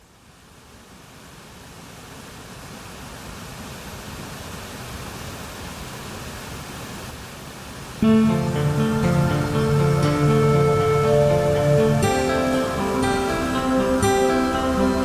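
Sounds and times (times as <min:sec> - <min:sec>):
waterfall roaring: 0:00.1 - 0:15.0.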